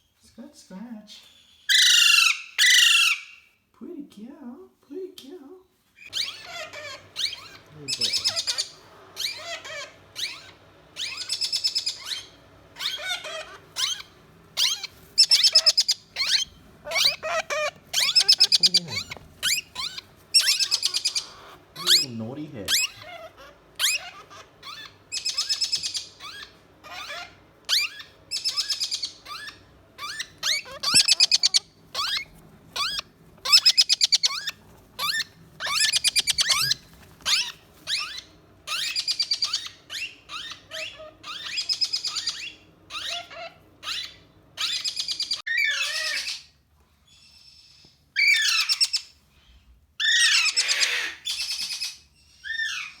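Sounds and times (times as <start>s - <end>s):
young parrots squawking: 1.2s - 3.6s, 6.0s - 53.0s.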